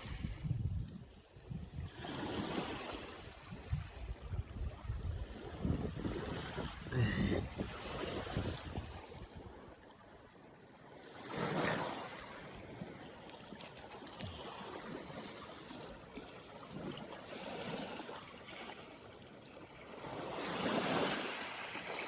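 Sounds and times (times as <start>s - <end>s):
waves washing onto beach: 1.4s - 22.0s.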